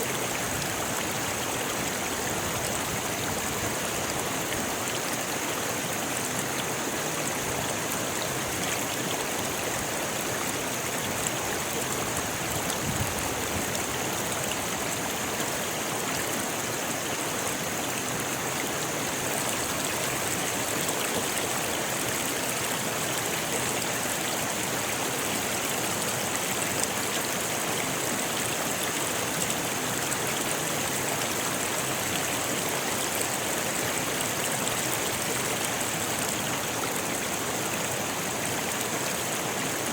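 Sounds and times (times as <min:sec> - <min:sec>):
river water splashing over stones: 0:00.0 - 0:39.9.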